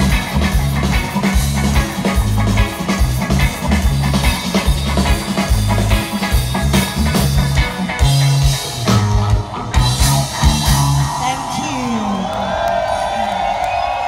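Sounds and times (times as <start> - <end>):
heavy bass line: 0.0 - 11.6
reggae band playing: 0.0 - 14.0.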